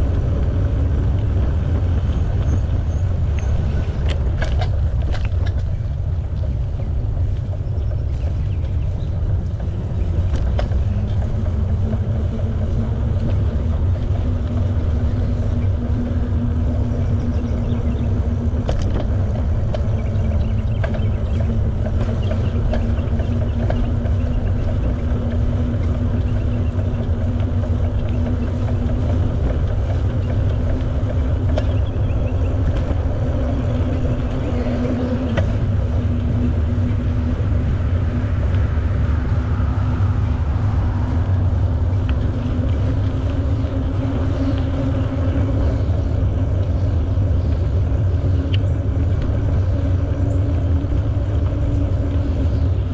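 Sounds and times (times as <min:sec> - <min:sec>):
bicycle tyre noise on path: 0:00.0 - 0:52.9
faint steady hum: 0:00.0 - 0:52.9
wind buffeting microphone: 0:00.0 - 0:52.9.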